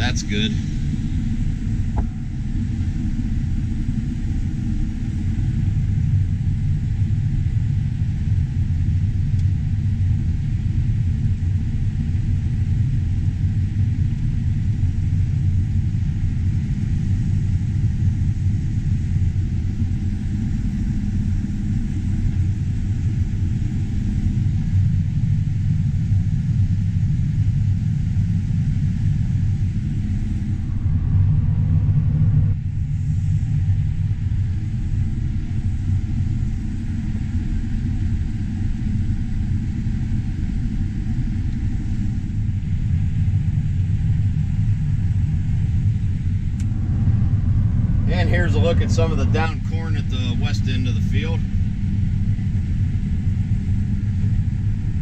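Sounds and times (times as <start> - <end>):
combine engine and machinery droning: 0.0 - 55.0.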